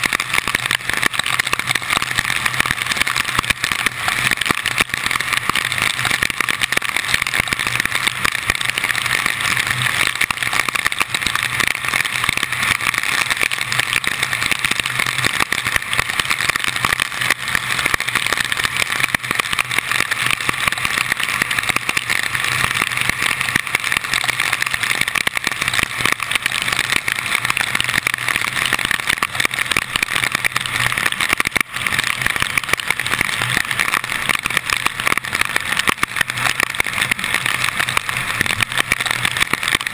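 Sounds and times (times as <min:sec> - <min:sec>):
heavy rain: 0:00.0 - 0:39.9
tyre spray on wet road: 0:00.0 - 0:39.9.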